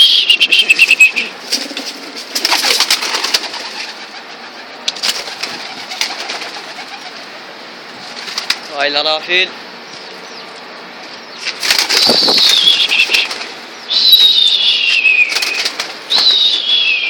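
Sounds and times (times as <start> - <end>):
wing flurry: 0.0 - 7.4, 8.0 - 8.7, 11.4 - 17.0
pigeons cooing: 0.0 - 8.6, 9.7 - 17.0.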